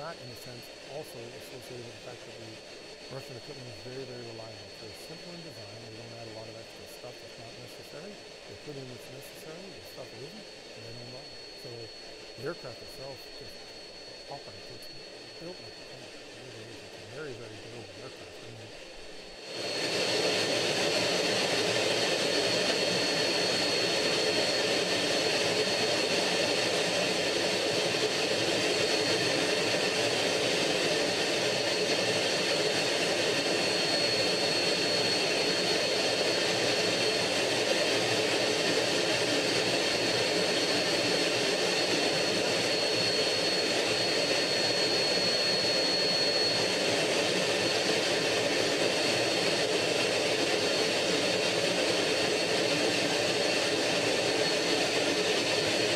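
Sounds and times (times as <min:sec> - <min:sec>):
jet engine noise: 0:00.0 - 0:55.9
thin high whine: 0:00.0 - 0:55.9.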